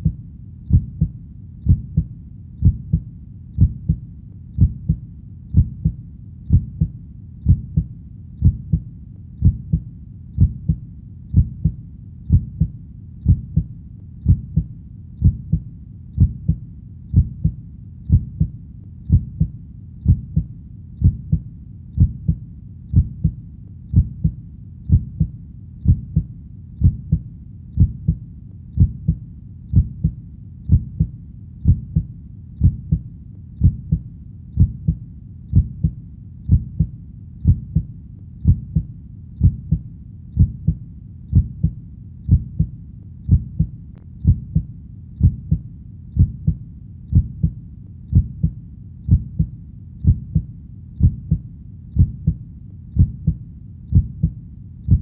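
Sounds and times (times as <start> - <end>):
heartbeat: 0.0 - 55.0.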